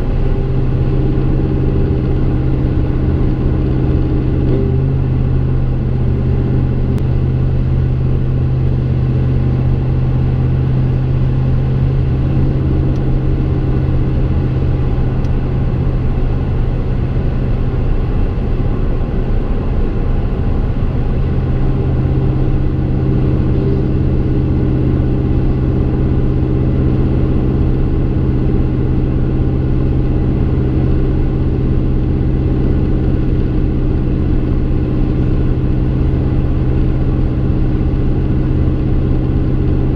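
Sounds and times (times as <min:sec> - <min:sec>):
car exhaust droning while driving: 0:00.0 - 0:39.9.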